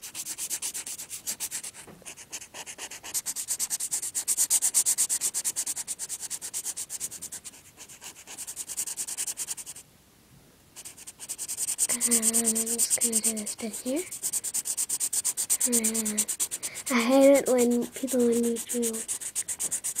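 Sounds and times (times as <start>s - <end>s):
marker scribbling on paper: 0.0s - 9.8s, 10.8s - 20.0s.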